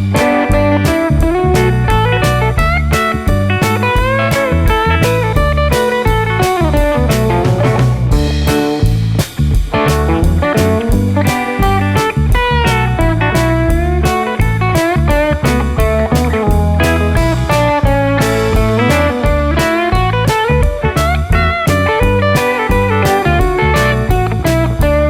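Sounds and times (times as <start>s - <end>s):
electric guitar bent notes: 0.0s - 25.0s
steady drum beat: 0.0s - 25.0s.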